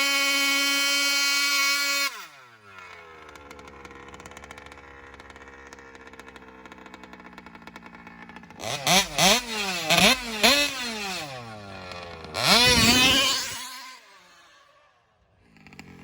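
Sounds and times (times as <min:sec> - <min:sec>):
small two-stroke engine revving: 0:00.0 - 0:16.0.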